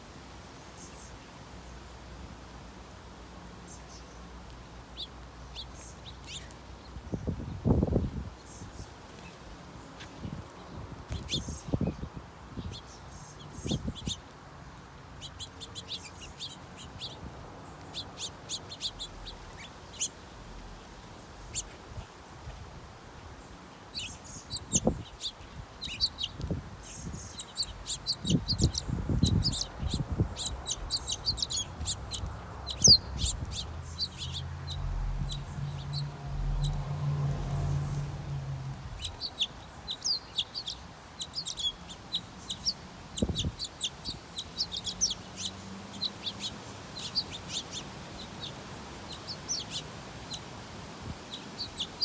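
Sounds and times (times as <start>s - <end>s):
birds chirping: 3.6s - 22.6s, 23.2s - 52.0s.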